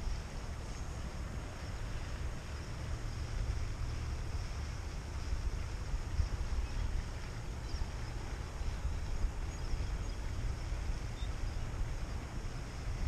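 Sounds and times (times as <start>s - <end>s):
soft outdoor hiss: 0.0s - 13.0s
wind buffeting microphone: 0.0s - 13.0s.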